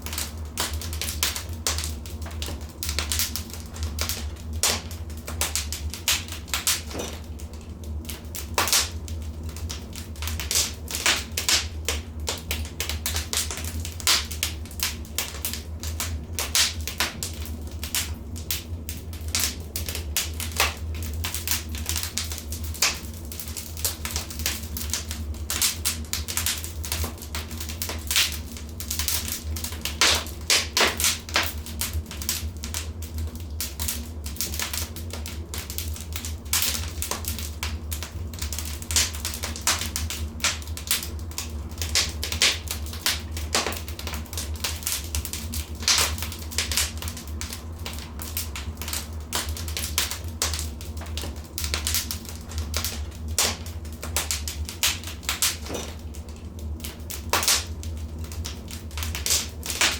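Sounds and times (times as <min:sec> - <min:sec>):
steady low hum: 0:00.0 - 0:59.9
wood fire crackling: 0:00.0 - 0:59.9.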